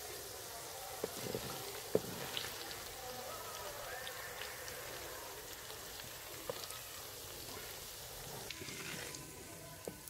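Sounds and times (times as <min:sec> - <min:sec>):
ghee sizzling in a pot: 0:00.0 - 0:10.0.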